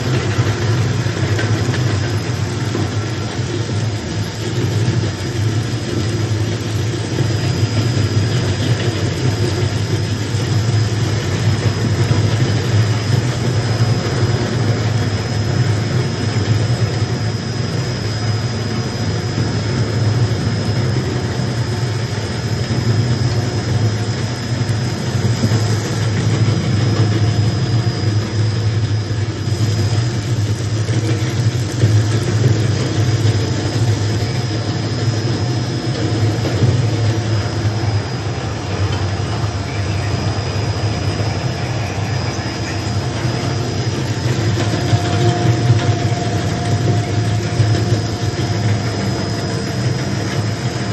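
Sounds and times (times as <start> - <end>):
faint high whine: 0.0 - 50.9
plastic shredder drone: 0.0 - 50.9.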